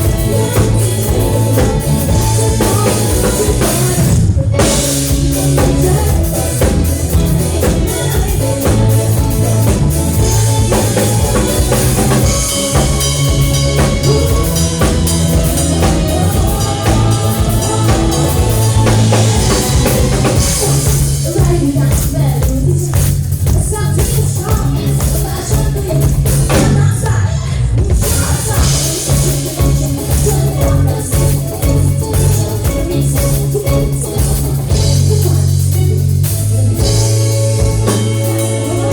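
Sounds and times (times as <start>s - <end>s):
bass line: 0.0s - 38.9s
drum kit with rimshots: 0.0s - 38.9s
live rock band: 0.0s - 38.9s.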